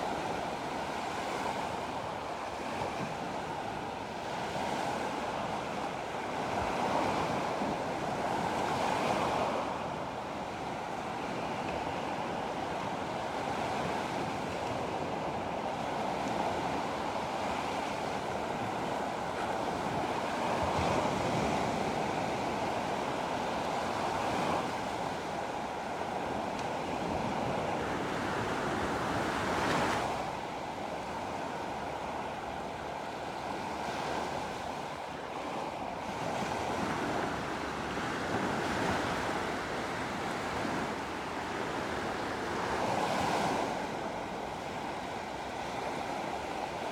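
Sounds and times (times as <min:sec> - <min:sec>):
sea waves washing ashore: 0:00.0 - 0:46.9.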